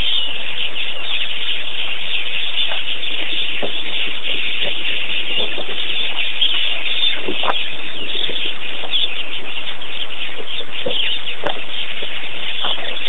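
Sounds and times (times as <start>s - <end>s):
high outdoor hiss: 0.0s - 13.0s.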